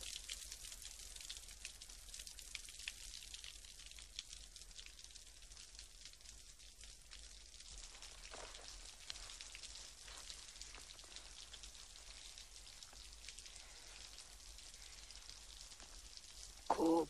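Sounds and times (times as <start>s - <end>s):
light rain patter: 0.0s - 17.0s.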